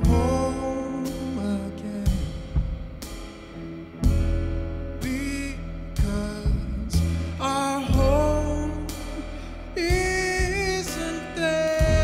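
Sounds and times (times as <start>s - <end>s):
drum and cymbal hits: 0.0s - 12.0s
live trio playing: 0.0s - 12.0s
low bass notes: 0.0s - 12.0s.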